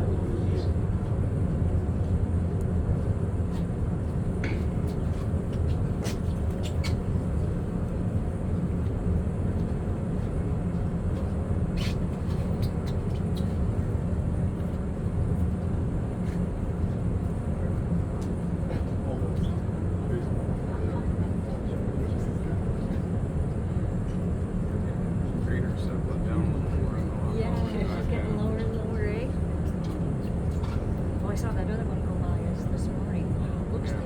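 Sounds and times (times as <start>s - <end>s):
low mechanical rumble: 0.0s - 34.0s.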